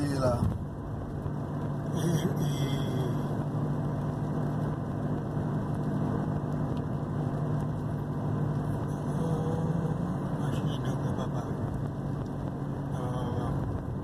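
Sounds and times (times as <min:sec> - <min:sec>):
car engine hum: 0:00.0 - 0:14.0
road noise inside car: 0:00.0 - 0:14.0.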